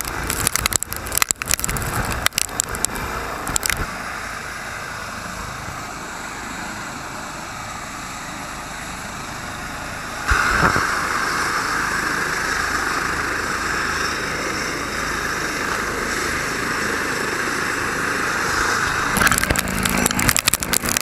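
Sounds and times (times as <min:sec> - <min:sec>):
helicopter turbine and rotor whine: 0:00.0 - 0:21.0.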